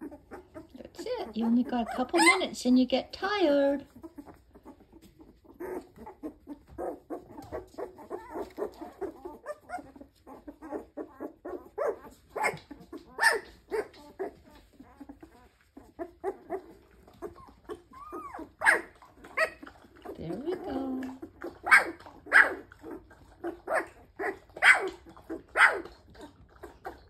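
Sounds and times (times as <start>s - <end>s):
puppies whimpering and yipping: 0.0s - 2.7s, 3.5s - 27.0s.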